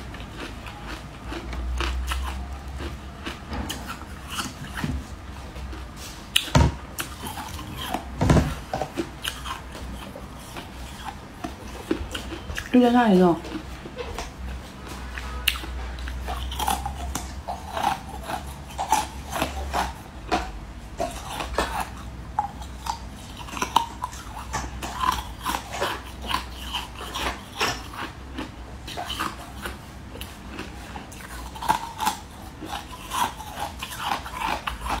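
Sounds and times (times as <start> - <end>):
biting and chewing food: 0.0 - 35.0
steady low hum: 0.0 - 35.0.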